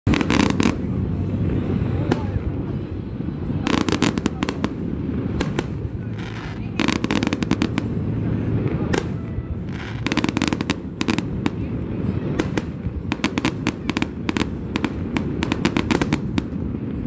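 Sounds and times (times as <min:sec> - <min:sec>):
fireworks bursting with crackling pops: 0:00.0 - 0:17.0.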